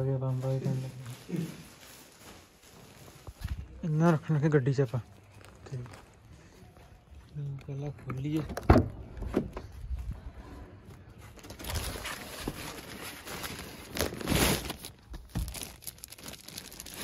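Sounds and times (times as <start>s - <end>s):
rustling and crinkling bundles: 0.0s - 17.0s.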